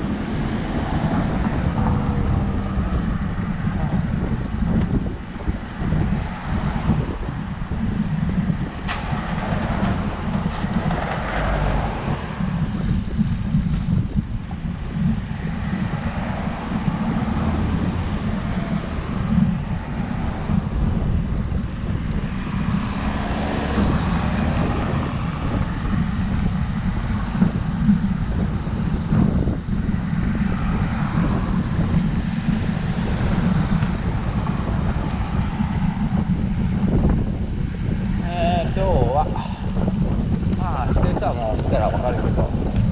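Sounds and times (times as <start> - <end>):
passing road traffic: 0.0 - 42.9
wind rumbling on microphone: 0.0 - 42.9.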